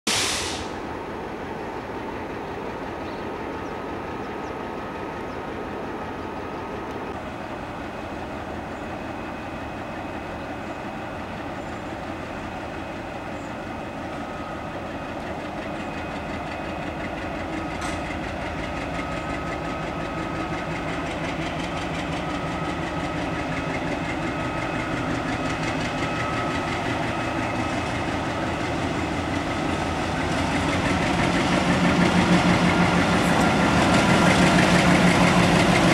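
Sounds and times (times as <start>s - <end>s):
train running noise: 0.1s - 35.9s.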